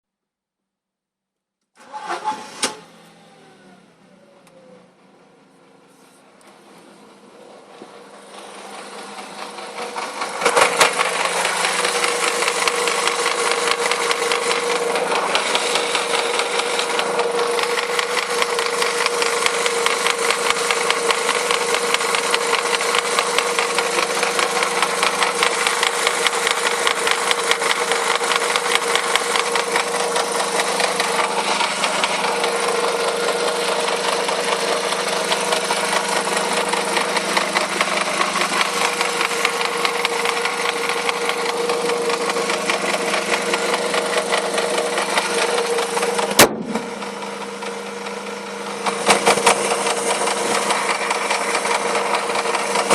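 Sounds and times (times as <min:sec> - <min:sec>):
car engine starting and idling: 0:01.7 - 0:52.9.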